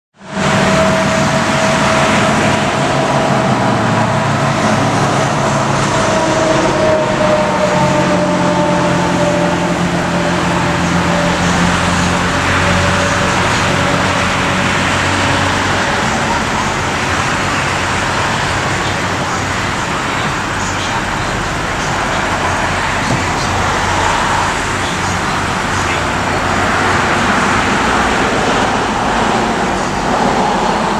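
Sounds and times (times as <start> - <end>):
road traffic going by: 0.2 - 30.9.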